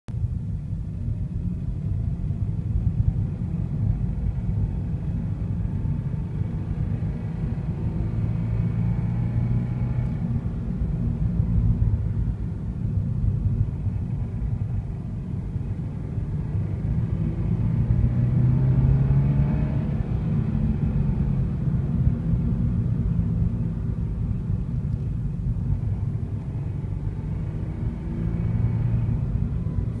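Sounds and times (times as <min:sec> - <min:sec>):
low engine rumble: 0:00.1 - 0:30.0.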